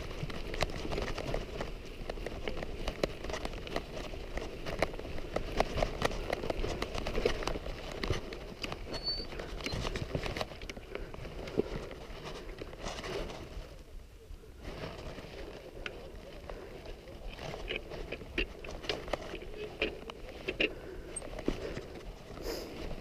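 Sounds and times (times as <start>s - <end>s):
footsteps crunching on stony ground: 0.0s - 23.0s.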